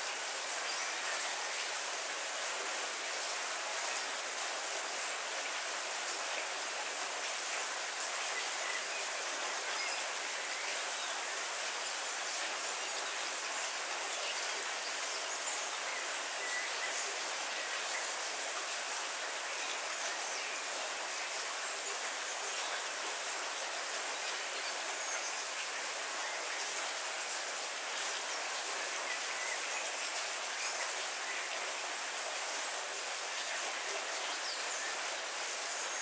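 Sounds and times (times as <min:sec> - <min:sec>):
heavy rain on trees: 0:00.0 - 0:36.0.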